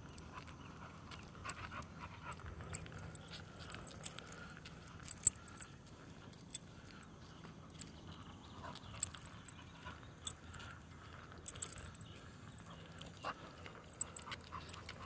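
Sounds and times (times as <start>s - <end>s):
metallic clinks of dog lead: 0.0s - 15.0s.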